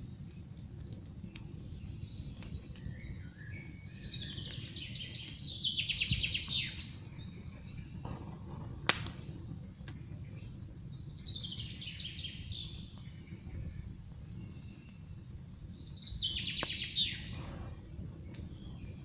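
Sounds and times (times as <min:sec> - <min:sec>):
birds singing: 0:00.0 - 0:19.0
campfire crackling and popping: 0:00.0 - 0:19.0.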